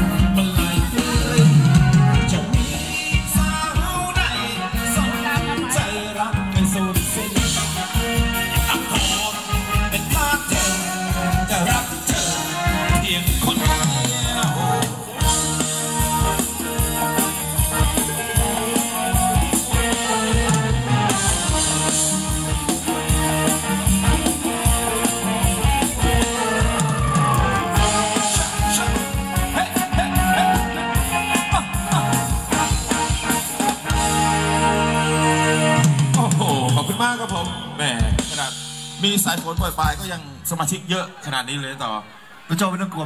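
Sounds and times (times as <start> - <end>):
drum kit steady beat: 0.0 - 40.3
guitar: 0.0 - 40.5
live band dance music: 0.0 - 43.0.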